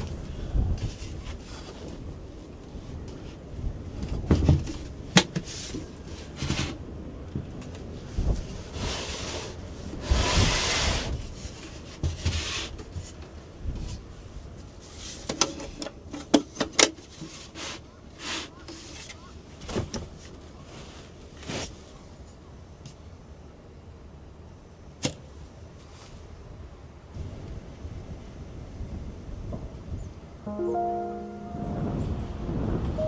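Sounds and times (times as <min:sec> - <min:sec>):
rustle: 0:00.0 - 0:30.4.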